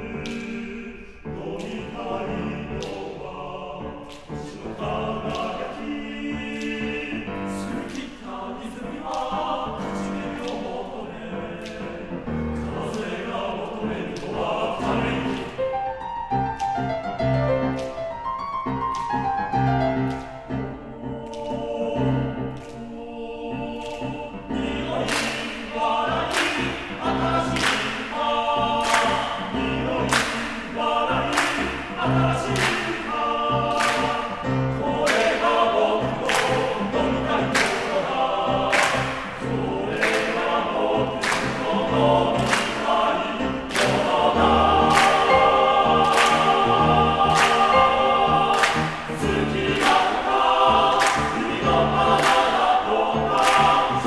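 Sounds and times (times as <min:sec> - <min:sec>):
choir singing: 0:00.0 - 0:54.0
piano accompaniment: 0:00.0 - 0:54.0.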